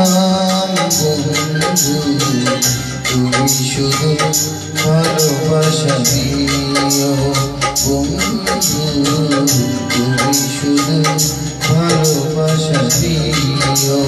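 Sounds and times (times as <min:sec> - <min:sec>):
song backing music with percussion: 0:00.0 - 0:14.0.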